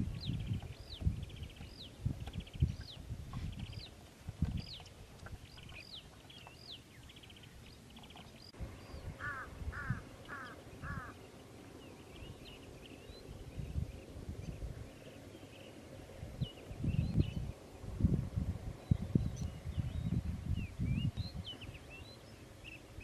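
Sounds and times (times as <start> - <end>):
birds calling: 0.0 - 17.9, 18.7 - 23.0.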